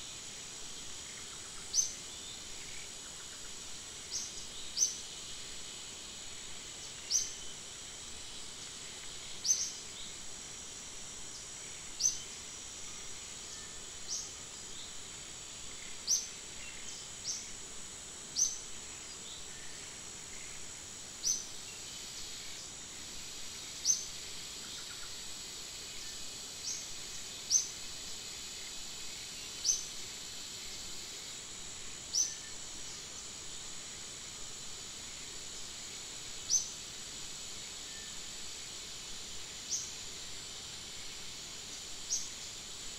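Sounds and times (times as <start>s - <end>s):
insect drone: 0.0s - 42.9s.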